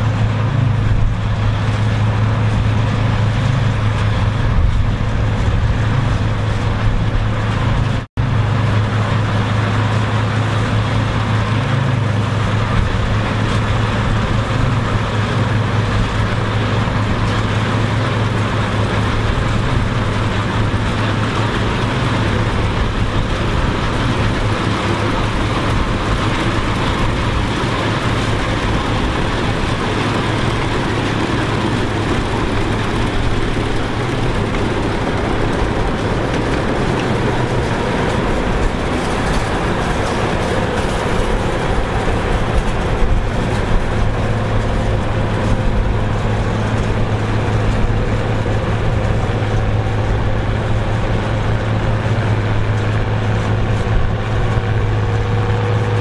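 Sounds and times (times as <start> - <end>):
machinery engine humming: 0.0 - 56.0.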